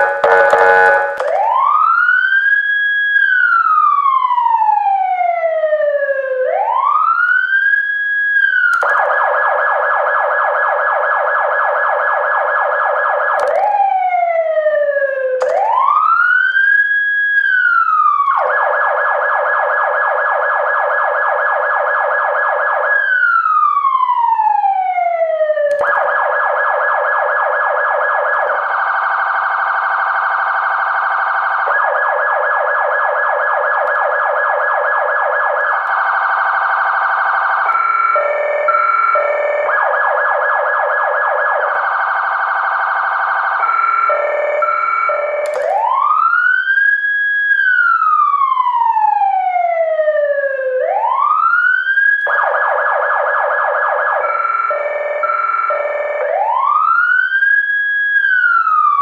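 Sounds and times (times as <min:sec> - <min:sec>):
emergency siren wailing and yelping: 0:00.0 - 0:59.0.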